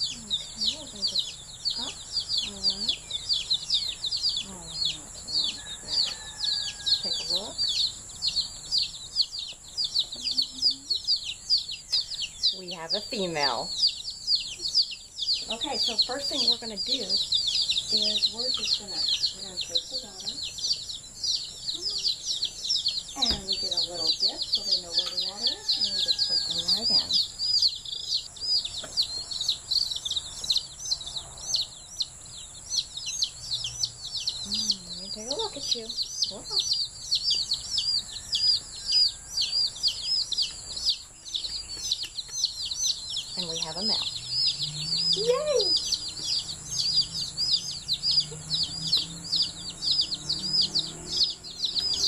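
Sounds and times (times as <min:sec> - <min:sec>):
chicks peeping: 0:00.0 - 0:52.0.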